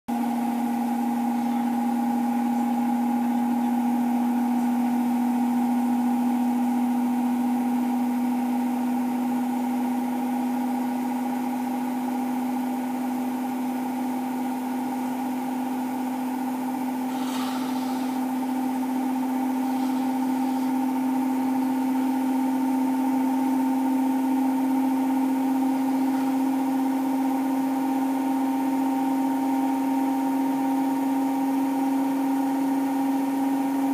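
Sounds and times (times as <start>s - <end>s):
washing machine spinning: 0.1s - 33.9s.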